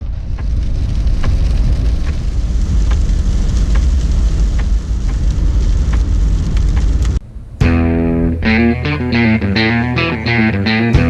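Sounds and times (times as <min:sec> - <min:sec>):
deep steady rumble: 0:00.0 - 0:11.0
heavy rain falling: 0:00.3 - 0:11.0
large raindrops ticking: 0:01.2 - 0:11.0.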